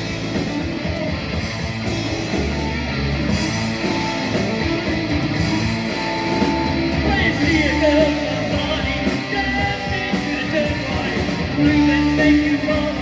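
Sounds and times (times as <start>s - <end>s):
electric guitar: 0.0s - 13.0s
live rock band playing: 0.0s - 13.0s.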